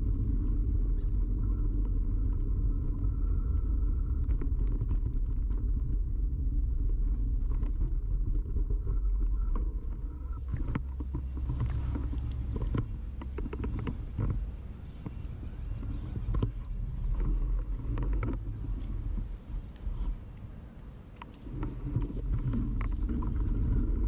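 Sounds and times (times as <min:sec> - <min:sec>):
bicycle tyre rumble: 0:00.0 - 0:24.0.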